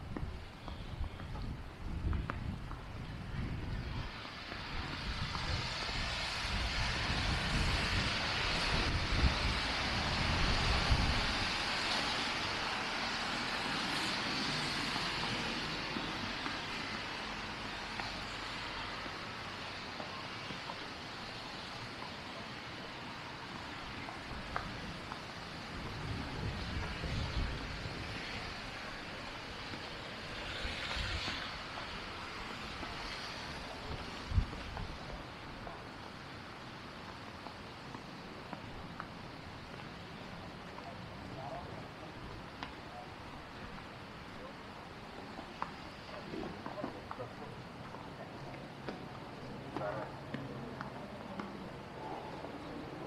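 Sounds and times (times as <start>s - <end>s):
street traffic hiss: 0.0s - 53.0s
wind gusts on microphone: 0.0s - 53.0s.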